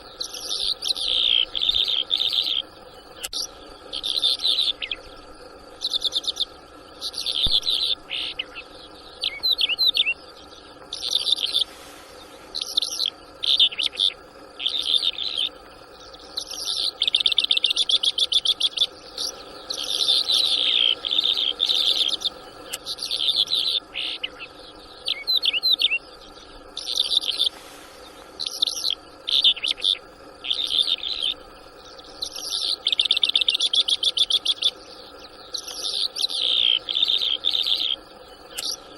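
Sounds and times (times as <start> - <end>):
lark chirping and trilling: 0.0 - 5.0, 5.8 - 10.2, 10.9 - 11.7, 12.6 - 26.1, 26.8 - 27.5, 28.4 - 38.9.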